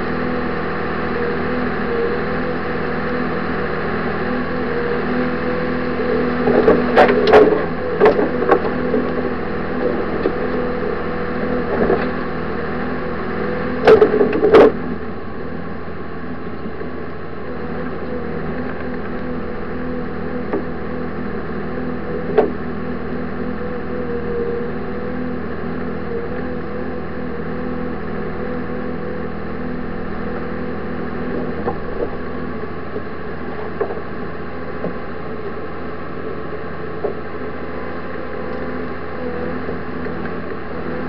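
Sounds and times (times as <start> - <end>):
snow vehicle engine running: 0.0 - 41.0.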